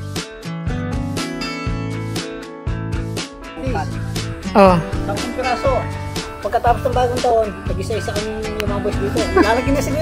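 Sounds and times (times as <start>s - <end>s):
rock music with guitar: 0.0s - 10.0s.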